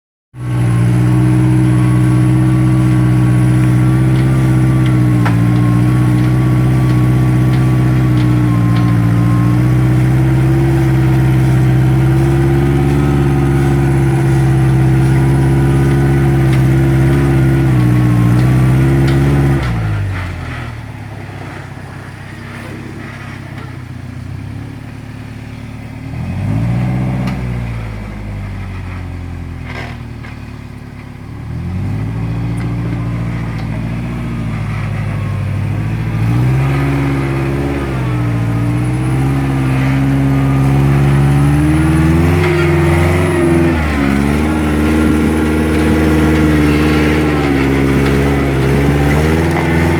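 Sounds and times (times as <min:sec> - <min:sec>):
off-road vehicle engine revving: 0:00.4 - 0:49.9.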